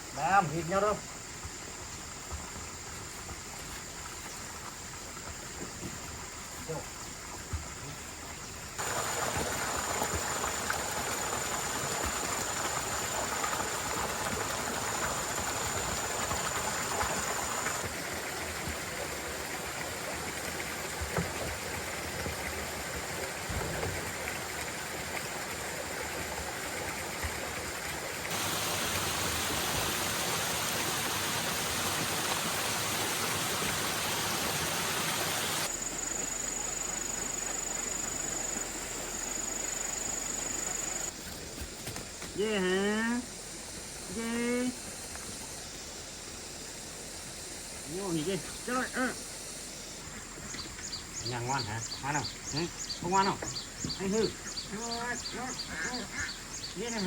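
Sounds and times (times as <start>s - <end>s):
running water rushing: 0.1s - 57.0s.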